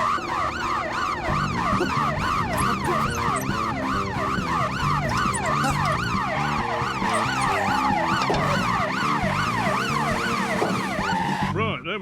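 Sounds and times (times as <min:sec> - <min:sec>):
siren yelping: 0:00.0 - 0:11.6
background music: 0:01.2 - 0:12.0.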